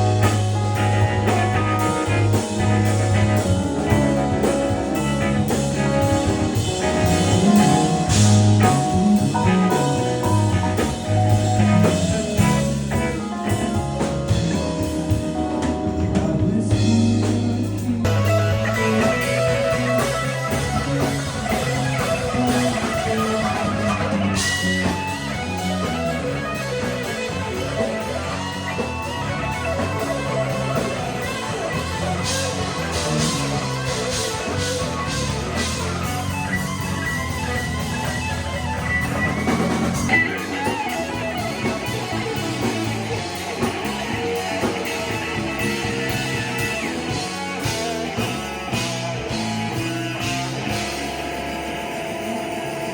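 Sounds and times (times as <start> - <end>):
drums: 0.0 - 52.9
electric guitar: 0.0 - 52.9
rock band playing: 0.0 - 52.9.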